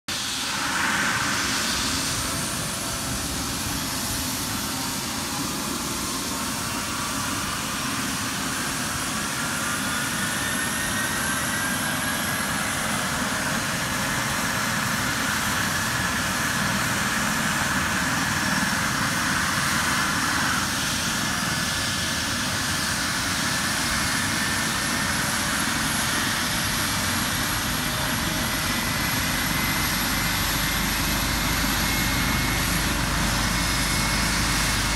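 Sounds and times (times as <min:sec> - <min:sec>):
helicopter turbine whine and rotor: 0:00.1 - 0:34.9.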